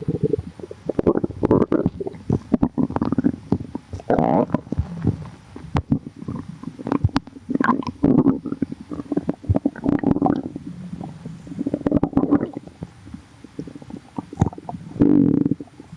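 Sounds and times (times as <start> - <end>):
stomach growling: 0.0 - 15.9.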